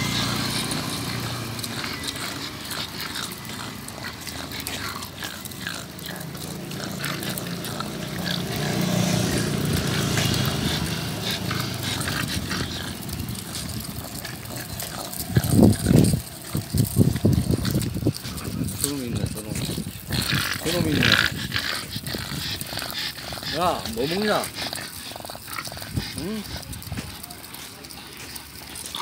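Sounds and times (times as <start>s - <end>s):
dogs panting: 0.0s - 29.0s
stroller rattling on pavement: 0.0s - 29.0s.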